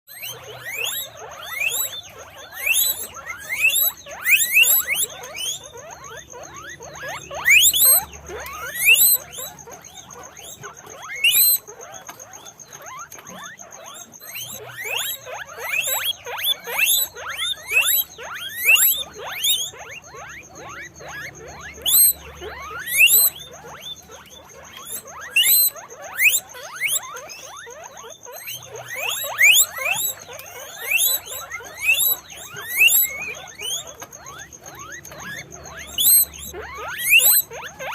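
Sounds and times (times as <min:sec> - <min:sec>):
guinea pigs squeaking: 0:00.1 - 0:37.9.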